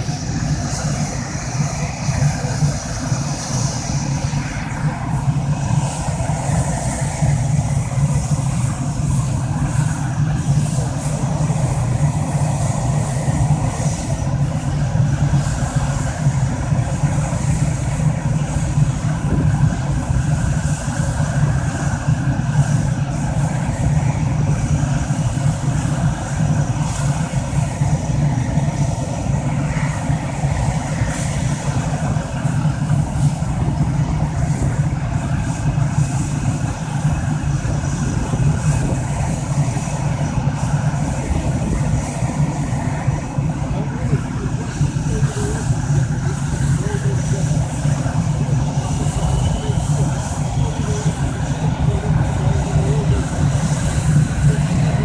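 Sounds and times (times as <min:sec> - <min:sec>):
high jet whine: 0:00.0 - 0:55.0
jet engines idling: 0:00.0 - 0:55.0.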